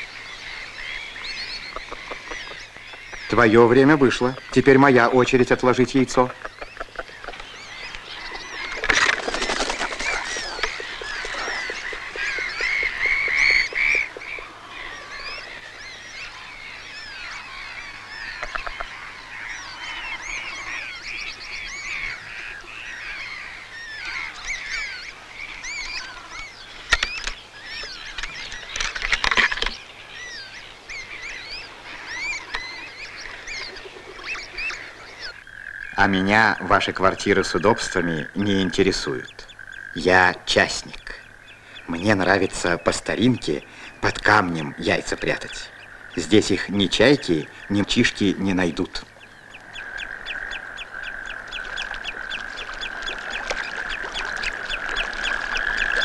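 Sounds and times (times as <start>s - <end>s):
birds chirping and honking: 0.0s - 56.0s.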